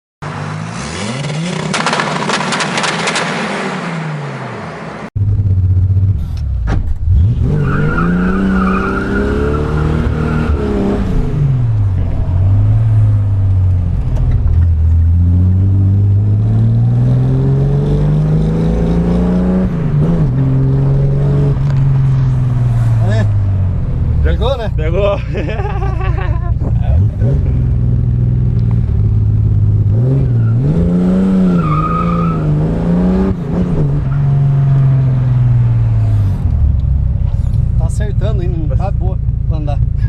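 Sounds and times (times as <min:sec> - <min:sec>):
car engine revving: 0:00.2 - 0:40.0.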